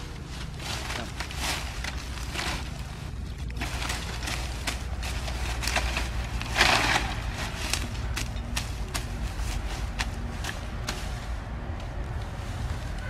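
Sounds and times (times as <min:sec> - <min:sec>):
scraping dry earth: 0:00.0 - 0:13.0.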